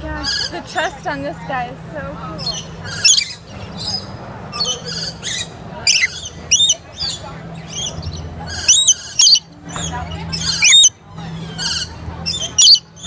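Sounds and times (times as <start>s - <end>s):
murmur of voices: 0.0s - 13.0s
lorikeets screeching: 2.4s - 13.0s.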